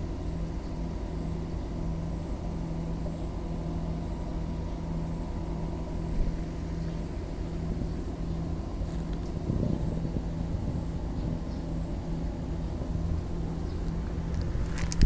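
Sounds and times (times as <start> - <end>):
low mechanical hum and rumble: 0.0 - 15.0.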